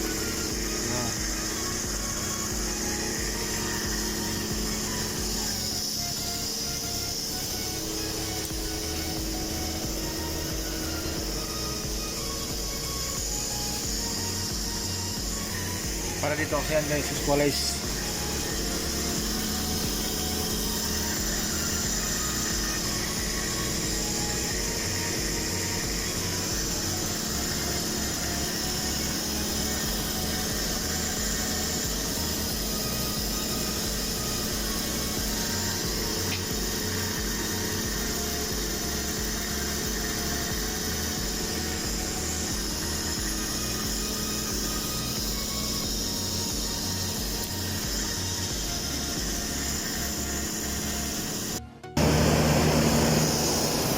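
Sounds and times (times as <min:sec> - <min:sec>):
electric water pump humming: 0:00.0 - 0:53.9.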